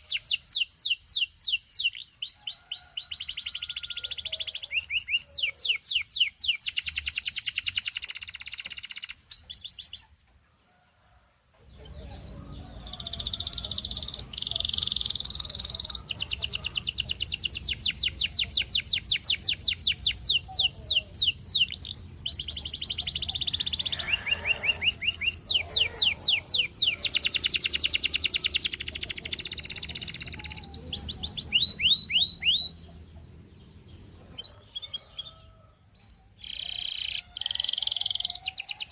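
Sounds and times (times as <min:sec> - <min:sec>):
canary singing trills: 0:00.0 - 0:10.2, 0:11.7 - 0:38.9.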